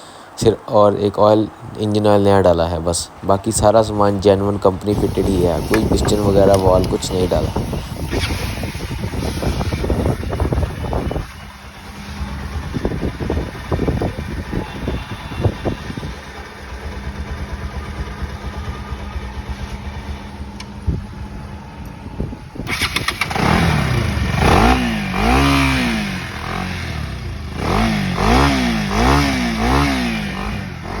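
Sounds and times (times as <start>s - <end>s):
motorcycle engine idling and revving: 4.9s - 31.0s.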